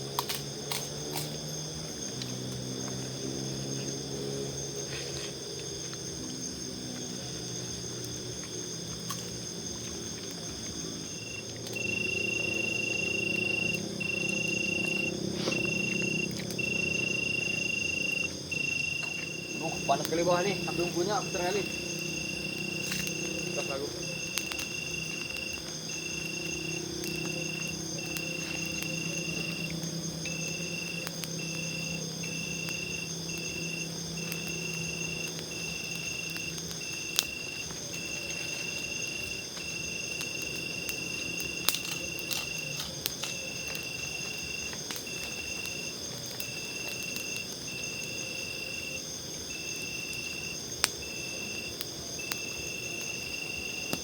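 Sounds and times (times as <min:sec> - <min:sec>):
campfire popping: 0:00.0 - 0:54.0
insect pulsed trills: 0:00.0 - 0:54.0
insects chirping: 0:00.0 - 0:54.0.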